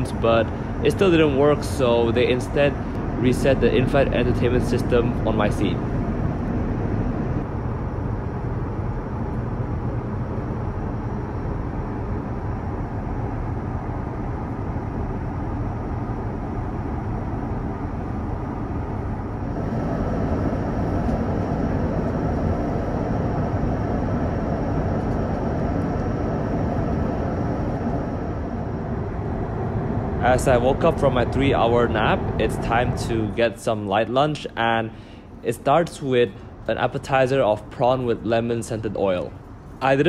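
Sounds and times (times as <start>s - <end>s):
airliner cabin noise: 0.0s - 40.0s
faint high whine: 0.0s - 40.0s.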